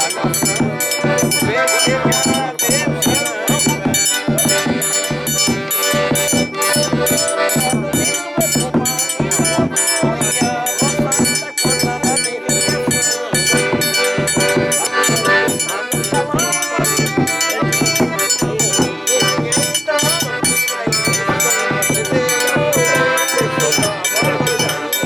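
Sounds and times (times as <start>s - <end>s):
accordion melody: 0.0s - 25.0s
bass drum beat: 0.0s - 25.0s.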